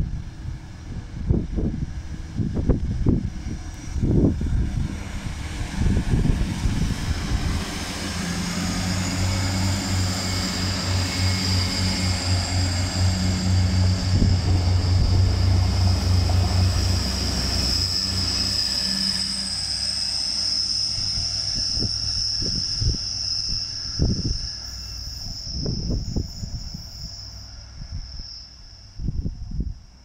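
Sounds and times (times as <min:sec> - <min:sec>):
diesel engine low drone: 0:00.0 - 0:30.0
thin high whine: 0:00.0 - 0:30.0.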